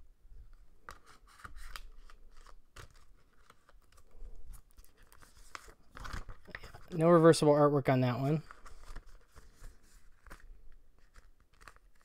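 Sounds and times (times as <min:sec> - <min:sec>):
paper sleeve rustling: 0:00.9 - 0:07.4, 0:08.1 - 0:12.0.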